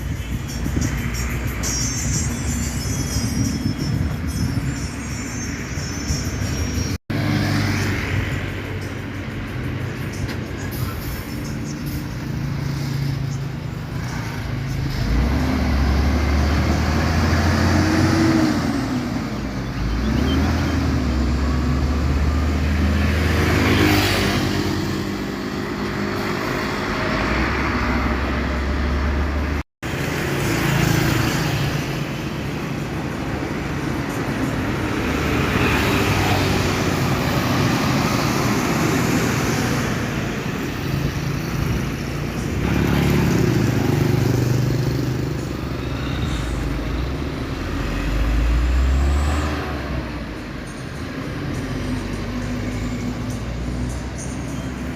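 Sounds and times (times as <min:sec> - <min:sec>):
road traffic noise: 0:00.0 - 0:54.9.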